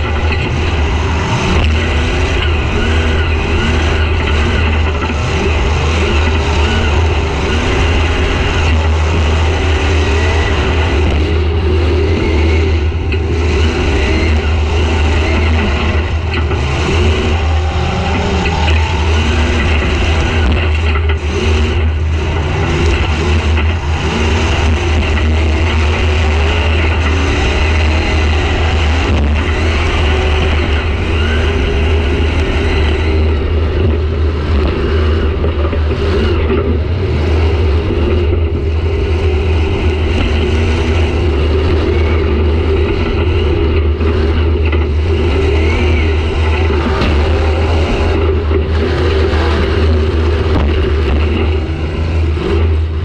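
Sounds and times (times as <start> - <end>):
car engine revving loud: 0.0 - 53.0.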